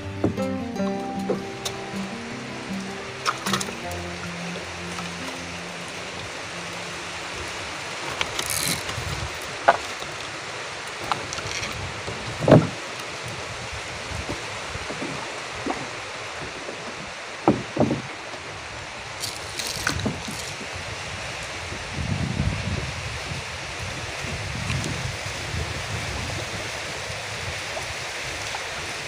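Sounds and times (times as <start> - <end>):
river water: 0.0 - 29.0
wind: 0.0 - 29.0.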